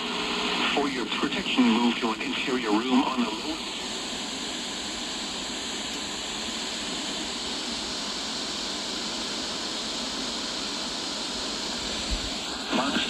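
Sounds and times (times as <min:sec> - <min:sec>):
radio static hiss: 0:00.4 - 0:13.0.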